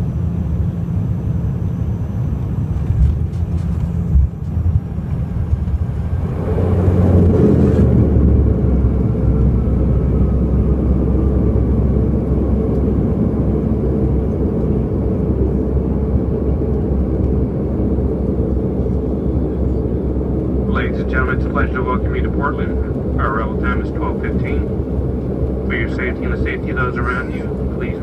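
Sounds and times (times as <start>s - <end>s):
airliner engines and wheels rumbling: 0.0s - 28.0s.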